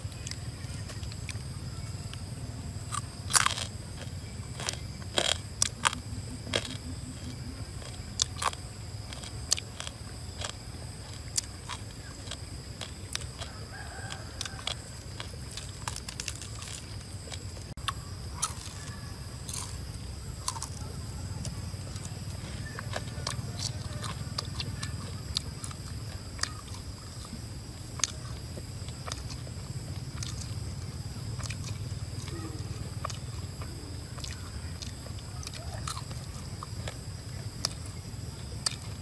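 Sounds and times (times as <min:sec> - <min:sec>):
crunchy chewing: 0:00.0 - 0:39.0
steady background hum: 0:00.0 - 0:39.0.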